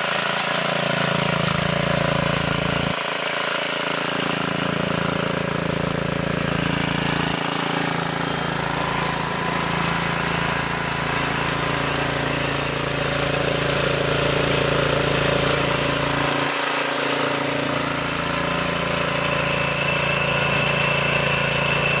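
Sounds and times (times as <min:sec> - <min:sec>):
tiller engine idling: 0:00.0 - 0:22.0.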